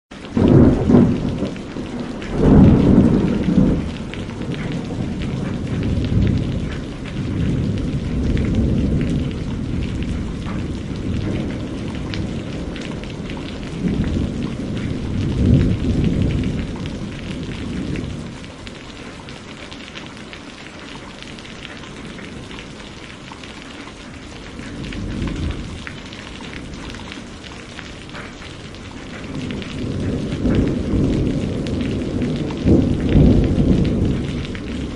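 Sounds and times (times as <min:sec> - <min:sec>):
heavy rain: 0:00.1 - 0:34.9
thunder rumbling: 0:00.2 - 0:19.0, 0:21.2 - 0:23.3, 0:24.0 - 0:34.9.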